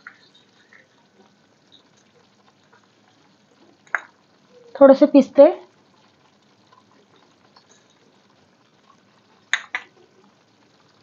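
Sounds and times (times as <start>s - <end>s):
syrup bubbling in a pan: 0.0s - 11.0s.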